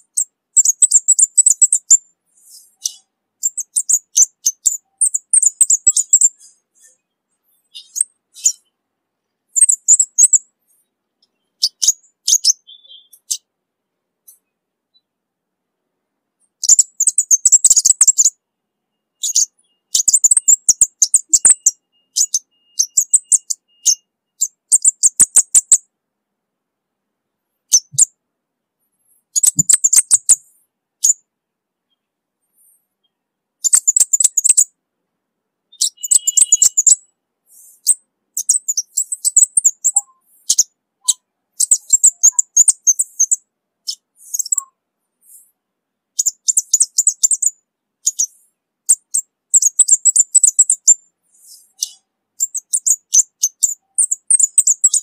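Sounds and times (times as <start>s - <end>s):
bird high ticking chirps: 0.0s - 8.8s, 9.5s - 13.5s, 16.4s - 25.9s, 27.6s - 28.2s, 28.9s - 31.2s, 31.9s - 34.7s, 35.7s - 45.6s, 46.2s - 55.0s.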